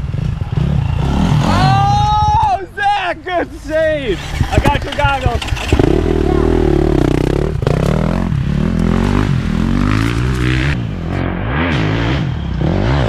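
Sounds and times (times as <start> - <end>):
dirt bike engine revving: 0.0 - 2.5, 3.9 - 13.0.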